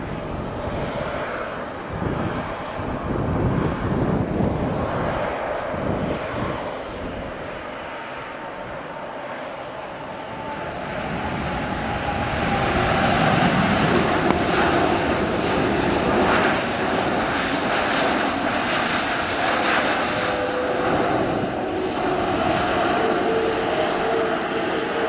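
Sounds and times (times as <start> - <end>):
faint engine whine: 0.0 - 25.0
jet engines roaring: 0.0 - 25.0.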